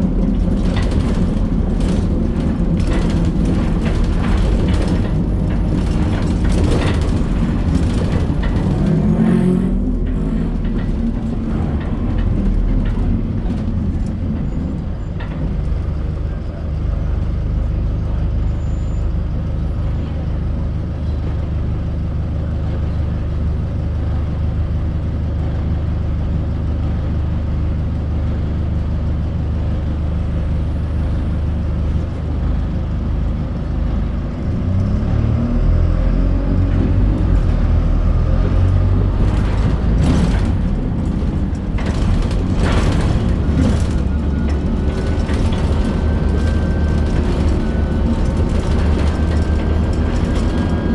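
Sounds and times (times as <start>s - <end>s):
bus diesel engine drone: 0.0s - 50.9s.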